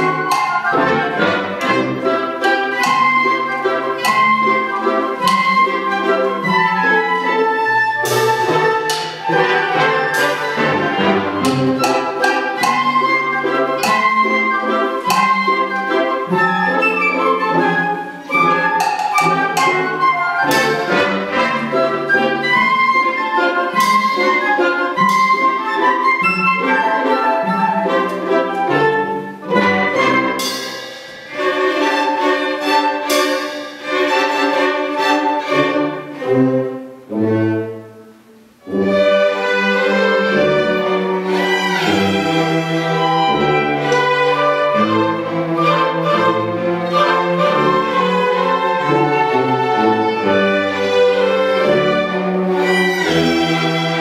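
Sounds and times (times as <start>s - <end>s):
orchestra playing a waltz: 0.0s - 54.0s.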